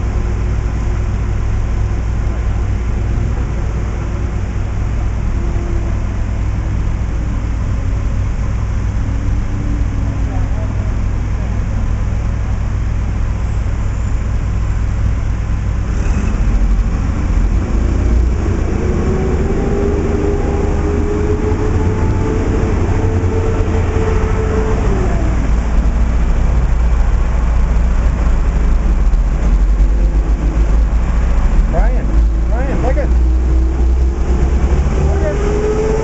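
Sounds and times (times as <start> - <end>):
low traffic rumble: 0.0 - 36.0
passing vehicle engine hum: 0.0 - 36.0.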